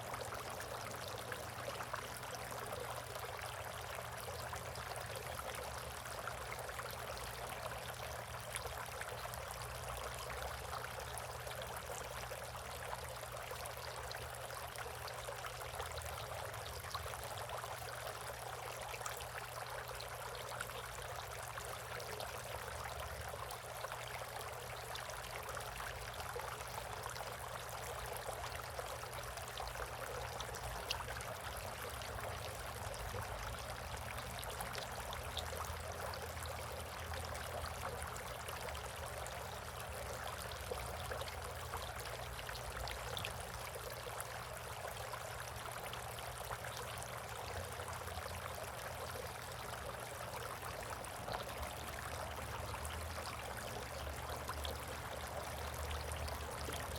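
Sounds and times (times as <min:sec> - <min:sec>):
water trickling and splashing: 0:00.0 - 0:56.9.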